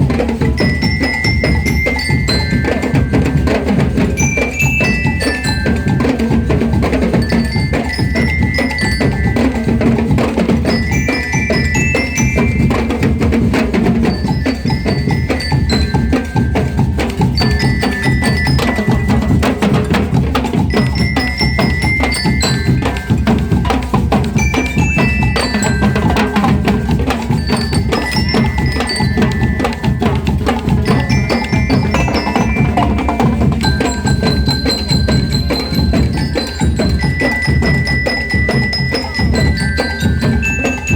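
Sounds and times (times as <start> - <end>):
bell lyre melody: 0.0 - 40.9
steady drumming: 0.0 - 40.9.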